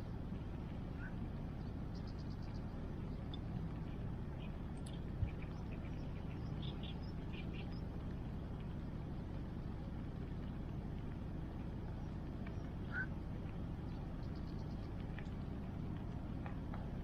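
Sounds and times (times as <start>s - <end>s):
fire crackles: 0.0s - 17.0s
rain: 0.0s - 17.0s.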